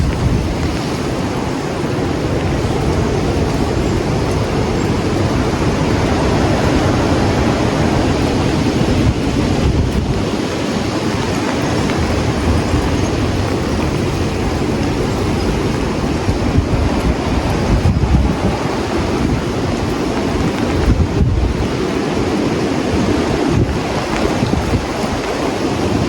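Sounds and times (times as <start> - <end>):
strong wind buffeting microphone: 0.0 - 26.0.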